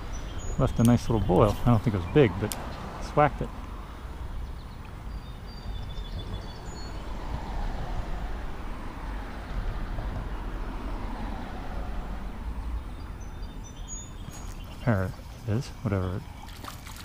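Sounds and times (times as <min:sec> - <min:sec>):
vehicle tyre noise: 0:00.0 - 0:16.5
traffic rumble overhead: 0:00.0 - 0:17.0.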